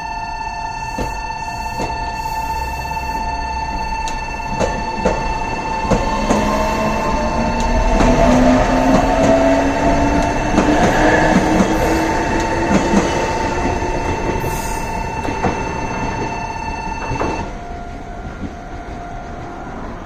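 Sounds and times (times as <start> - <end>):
electric train motor whine: 0.0 - 20.0
level crossing alarm ringing: 0.0 - 20.0.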